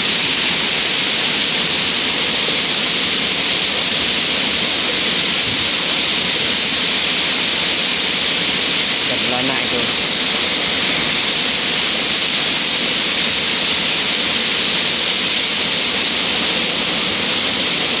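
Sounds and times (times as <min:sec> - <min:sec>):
water gushing into sea: 0:00.0 - 0:18.0.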